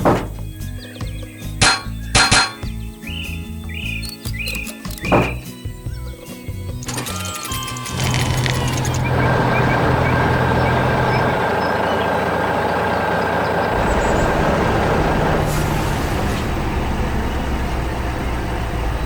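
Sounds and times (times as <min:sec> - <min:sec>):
truck engine running: 0:03.1 - 0:19.0.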